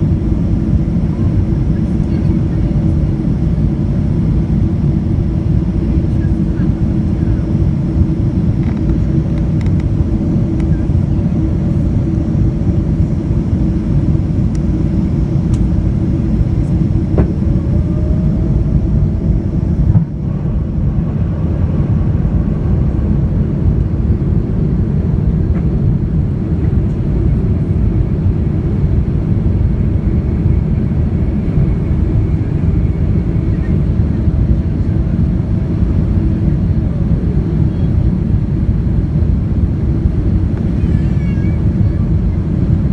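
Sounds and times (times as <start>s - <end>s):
airflow and jet engine rumble: 0.0s - 42.9s
humming engine tones: 0.0s - 42.9s.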